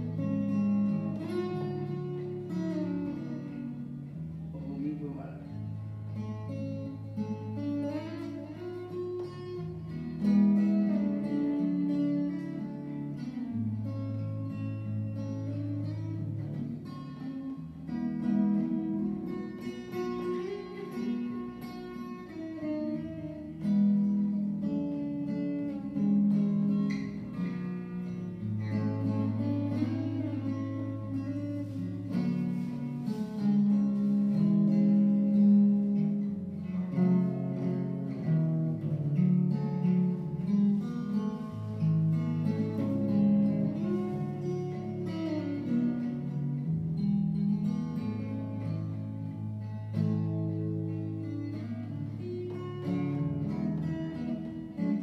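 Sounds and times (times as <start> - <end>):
acoustic guitar melody: 0.0 - 55.0.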